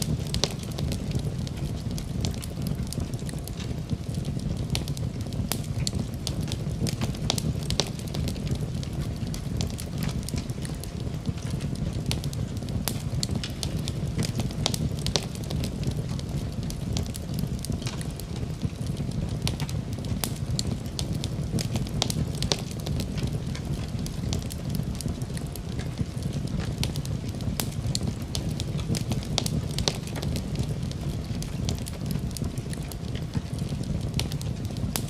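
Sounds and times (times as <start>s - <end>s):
fire crackles and pops: 0.0s - 35.0s
fire flames rumbling: 0.0s - 35.0s.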